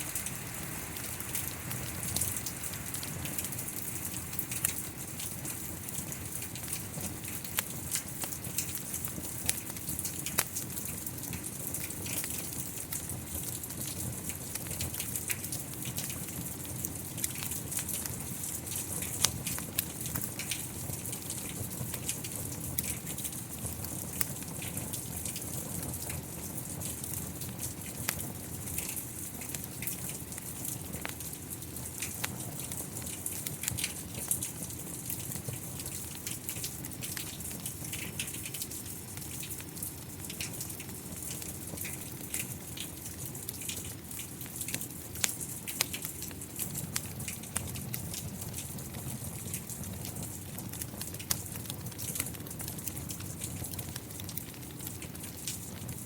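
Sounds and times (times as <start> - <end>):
steady rain hiss: 0.0 - 56.0
wood fire crackling and popping: 0.0 - 56.0.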